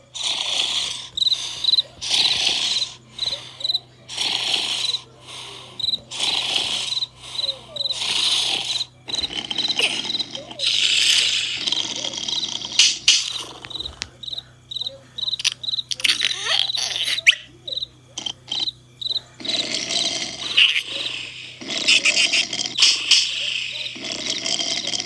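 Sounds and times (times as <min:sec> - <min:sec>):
cartoon snoring: 0:00.0 - 0:25.0
crickets chirping: 0:00.0 - 0:25.0.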